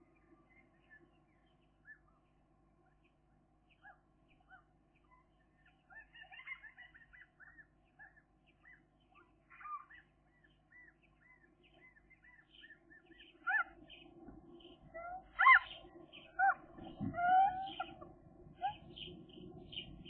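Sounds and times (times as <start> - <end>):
faint steady hum: 0.0 - 20.0
birds calling: 3.7 - 20.0.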